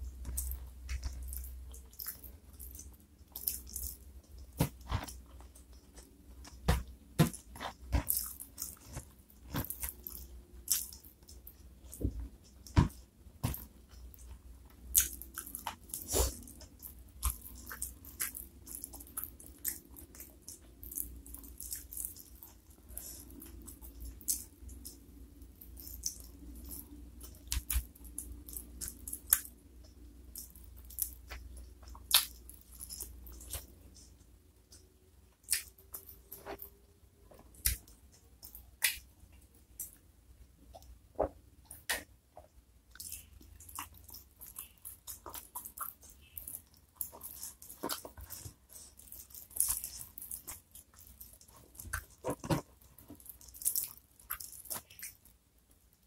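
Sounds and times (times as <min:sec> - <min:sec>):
chewing crispy fried chicken: 0:00.0 - 0:40.1, 0:42.9 - 0:56.0.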